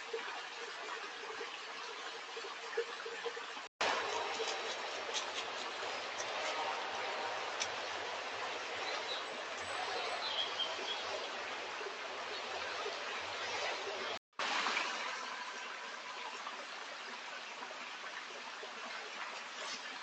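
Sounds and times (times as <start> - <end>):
stream water rushing: 3.8 - 20.0.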